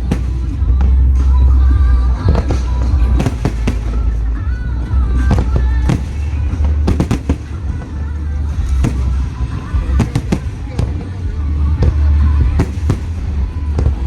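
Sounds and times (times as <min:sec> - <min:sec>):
fireworks bursting with bangs: 0:00.0 - 0:14.0
low rumble: 0:00.0 - 0:14.0.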